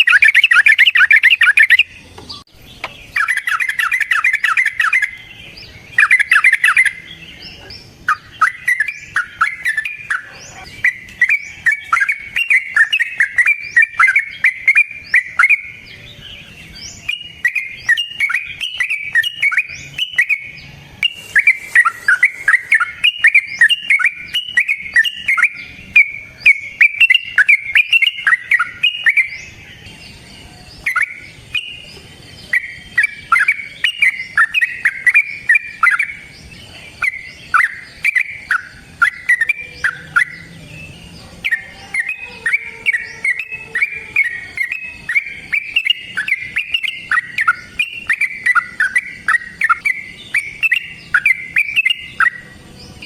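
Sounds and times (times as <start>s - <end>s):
bulbul singing chattering notes: 0.0s - 53.0s.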